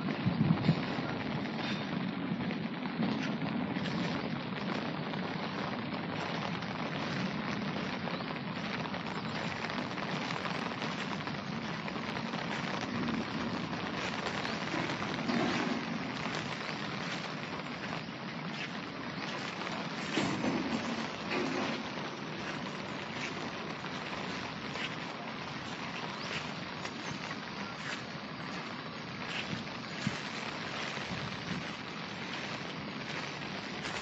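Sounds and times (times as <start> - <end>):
steady rain on dirt and grass: 0.0 - 34.0.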